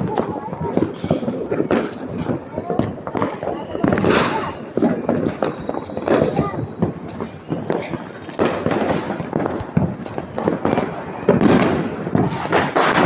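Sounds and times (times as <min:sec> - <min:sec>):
firecrackers and fireworks bangs: 0:00.0 - 0:13.0.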